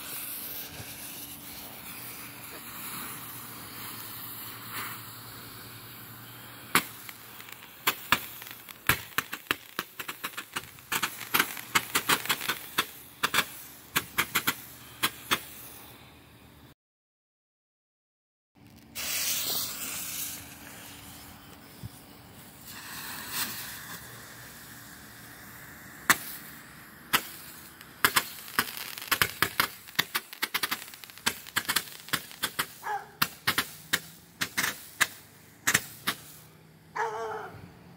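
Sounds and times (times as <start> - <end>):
firework crackling pops: 0.0 - 15.9, 18.6 - 36.5
firework shots hissing: 0.0 - 16.1, 18.9 - 36.6.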